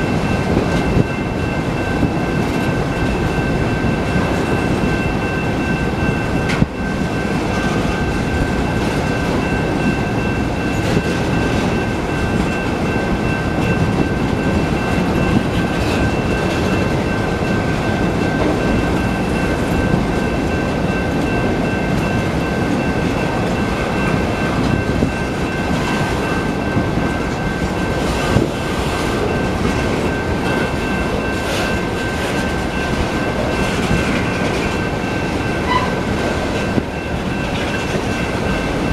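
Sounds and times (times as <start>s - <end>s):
steady high tones: 0.0s - 38.9s
train wheels rumbling on rail: 0.0s - 38.9s.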